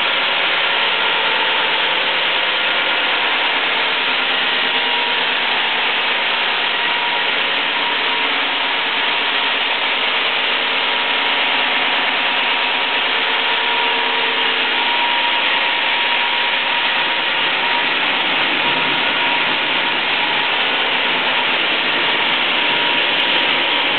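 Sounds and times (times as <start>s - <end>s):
faint steady whine: 0.0s - 23.9s.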